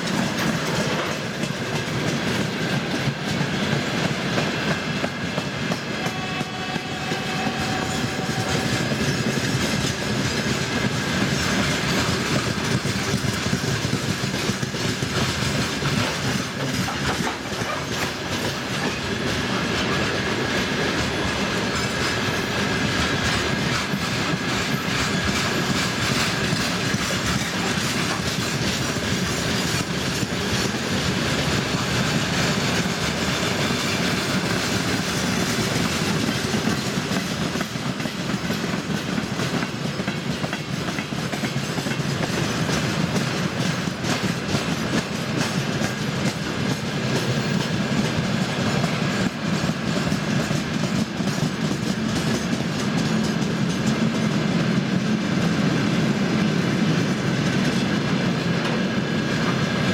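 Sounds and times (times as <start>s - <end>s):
wheels clacking over rail joints: 0.0s - 59.9s.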